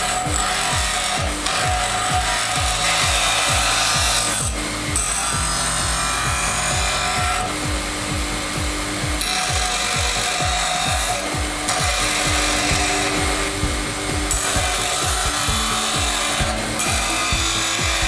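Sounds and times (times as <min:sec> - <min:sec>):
background music with a beat: 0:00.0 - 0:18.0
bench grinder grinding steel: 0:00.0 - 0:18.0.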